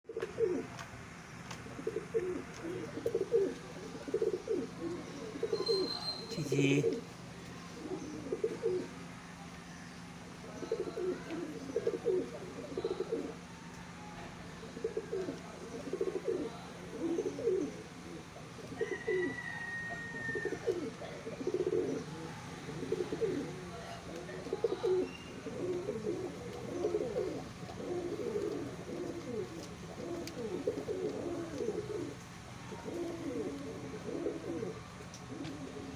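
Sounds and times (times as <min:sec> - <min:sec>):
pigeons cooing: 0:00.1 - 0:09.4, 0:10.2 - 0:35.9.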